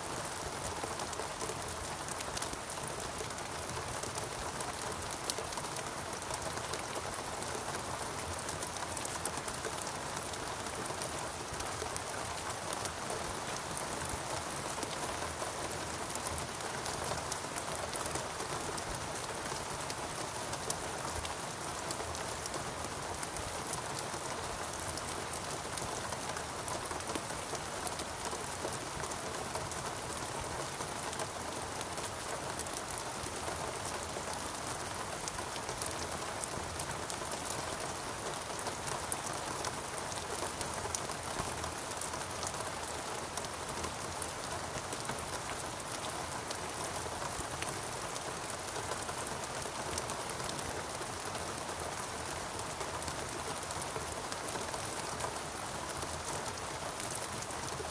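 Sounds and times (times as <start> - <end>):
rain on foliage: 0.0 - 57.9.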